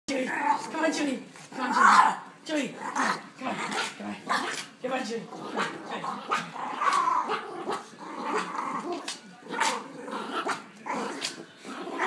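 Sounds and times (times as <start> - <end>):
dog growling: 0.2 - 0.8, 1.5 - 12.0.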